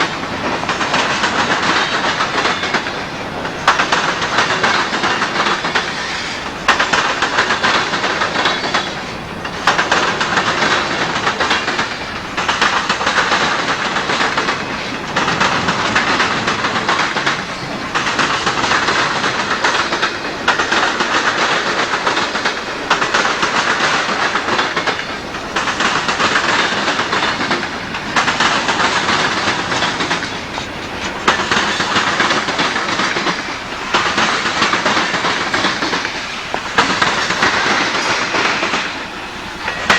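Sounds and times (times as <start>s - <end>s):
train wheels clacking on rails: 0.0s - 39.9s.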